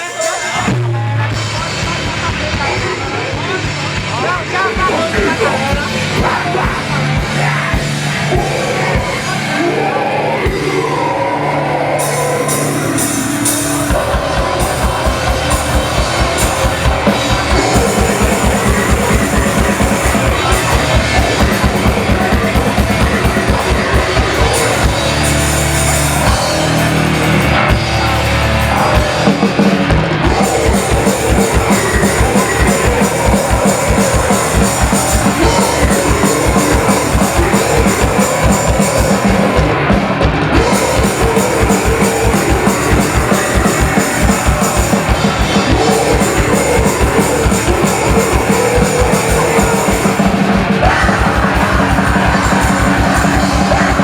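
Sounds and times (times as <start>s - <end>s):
bass guitar: 0.0s - 54.0s
distorted electric guitars: 0.0s - 54.0s
fast driving drum beat: 0.0s - 54.0s.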